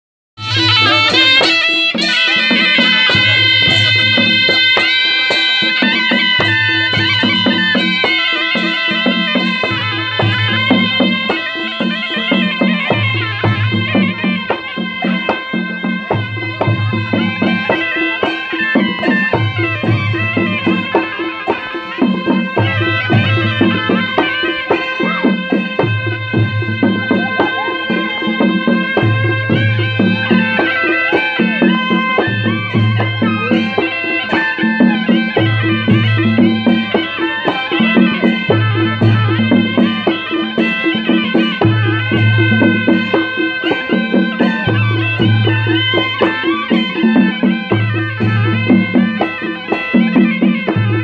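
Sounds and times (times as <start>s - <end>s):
barrel drum beating: 0.4s - 51.0s
shawms playing folk melody: 0.4s - 51.0s.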